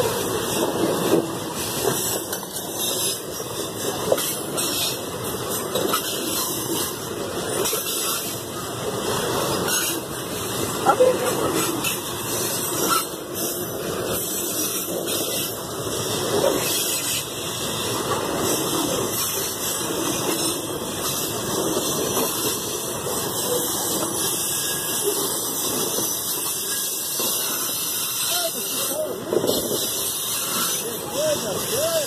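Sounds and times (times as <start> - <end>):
freight train cars rolling: 0.0 - 32.0
steel wheels hissing on rails: 0.0 - 32.0.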